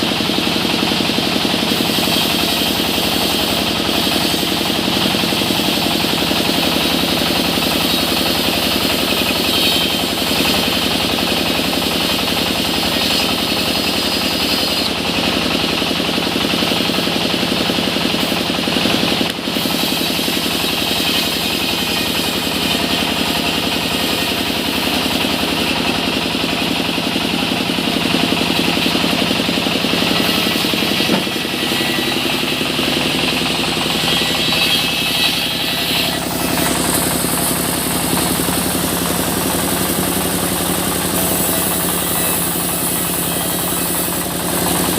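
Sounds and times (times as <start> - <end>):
sawmill machinery drone: 0.0 - 44.9.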